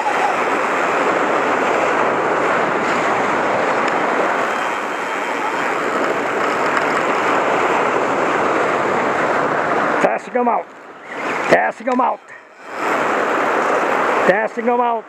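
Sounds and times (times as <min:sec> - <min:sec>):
wind buffeting microphone: 0:00.0 - 0:14.5
ocean surf: 0:00.0 - 0:15.0.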